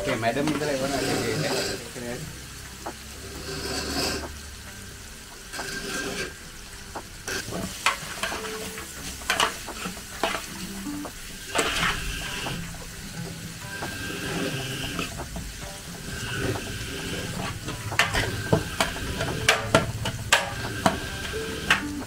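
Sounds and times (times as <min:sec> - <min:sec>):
curry frying and sizzling: 0:00.0 - 0:22.0
stirring tool scraping pot: 0:00.4 - 0:02.0, 0:03.2 - 0:04.3, 0:05.5 - 0:06.4, 0:07.3 - 0:22.0.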